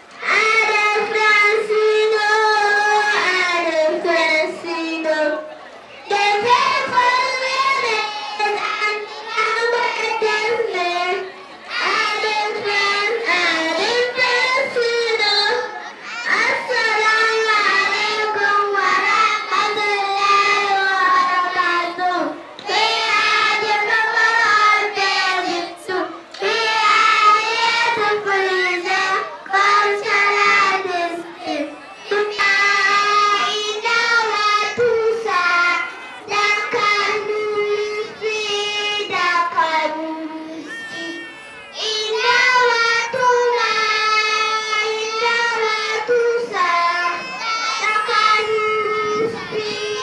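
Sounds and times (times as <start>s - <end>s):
children singing into a microphone: 0.0s - 50.0s.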